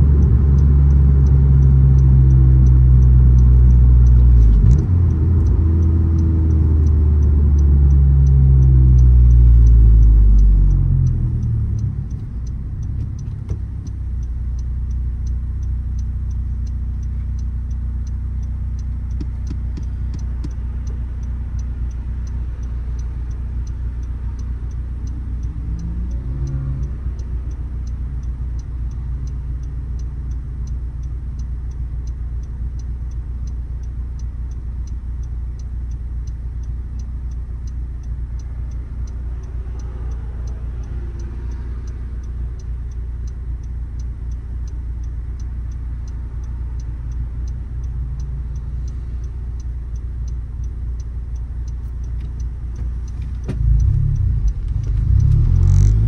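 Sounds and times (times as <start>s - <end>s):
car engine slowing and idling: 0.0s - 56.0s
turn signal ticking: 0.0s - 56.0s.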